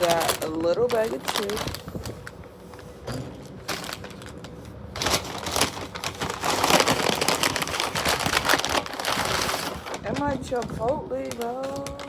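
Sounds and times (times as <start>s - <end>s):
chip bag plastic crinkling: 0.0s - 12.0s.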